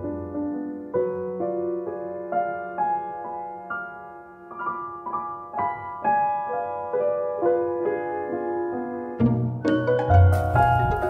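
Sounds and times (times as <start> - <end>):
soft piano piece: 0.0 - 11.0.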